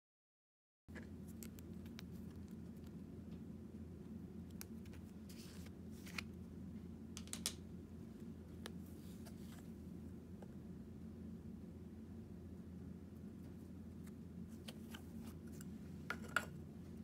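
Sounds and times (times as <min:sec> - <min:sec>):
low steady hum: 0:00.9 - 0:17.0.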